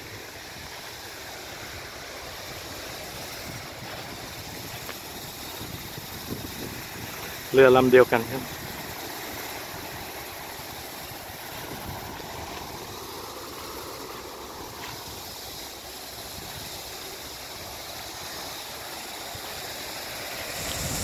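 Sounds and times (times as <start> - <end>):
waves washing against rocks: 0.0 - 21.0.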